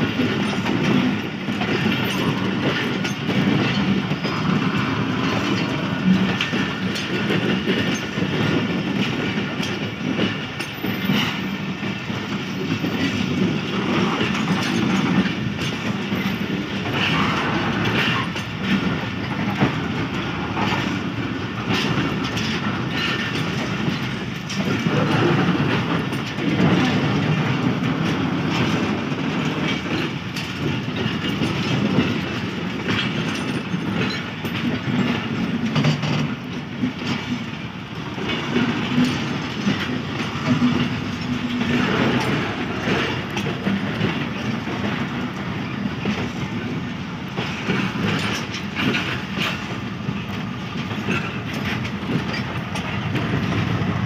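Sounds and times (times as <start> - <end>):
train wheels clattering over rail joints: 0.0 - 54.0.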